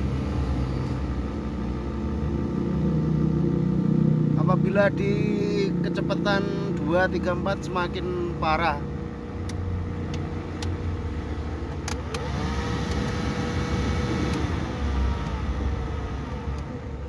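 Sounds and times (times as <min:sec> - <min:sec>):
blower fan motor growling: 0:01.4 - 0:17.0.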